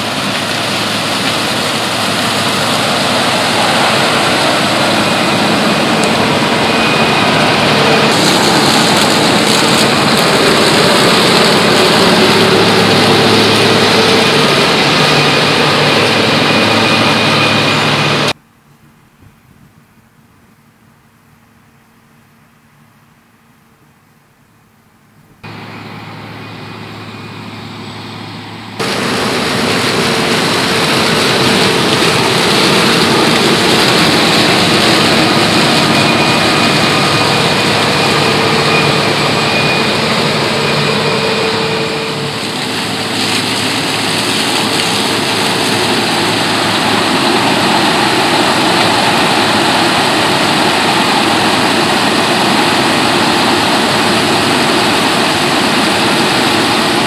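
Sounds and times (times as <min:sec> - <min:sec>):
combine harvester running with whine: 0:00.0 - 0:19.0, 0:25.0 - 0:57.0.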